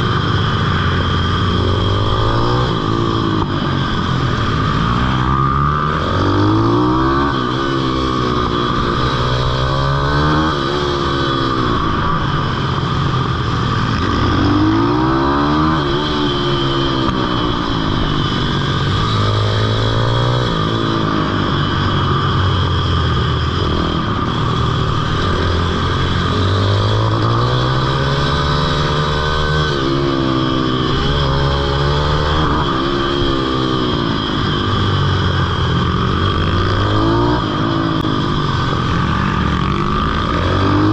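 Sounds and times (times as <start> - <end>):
small motorcycle engine revving: 0.0 - 40.9.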